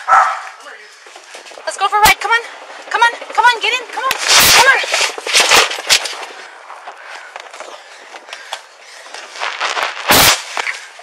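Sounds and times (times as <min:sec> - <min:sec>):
rustling and clatter: 0:00.4 - 0:11.0.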